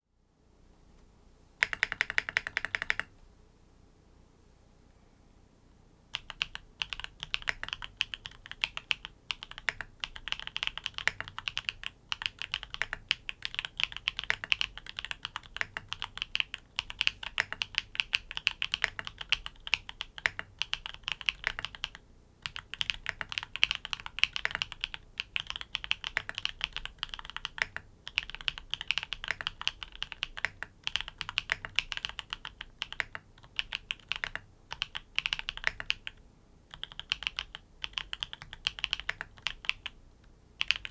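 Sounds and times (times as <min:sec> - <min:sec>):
mechanical keyboard typing: 0:01.6 - 0:03.1, 0:06.1 - 0:40.0, 0:40.6 - 0:40.9.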